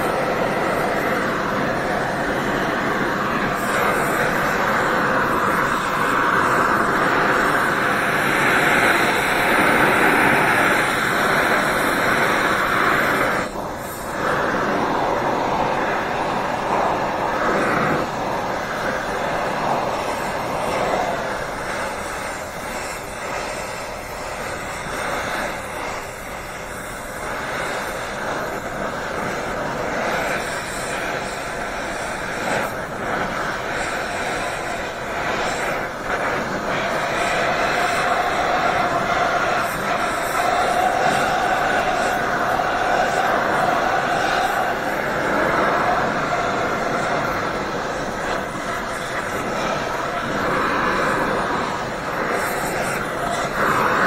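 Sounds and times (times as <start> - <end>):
gas torch flame hissing: 0.0 - 54.0.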